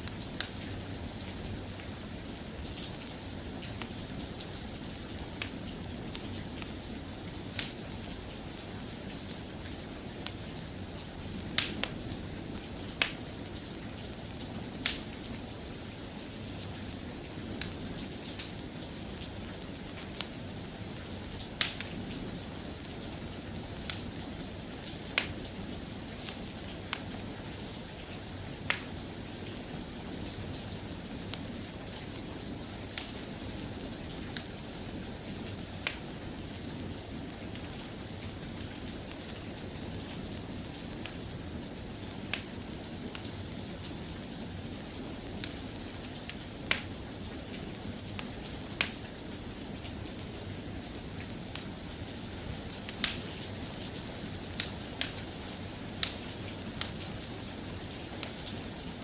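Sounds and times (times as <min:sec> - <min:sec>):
soft rain hiss: 0:00.0 - 0:59.0.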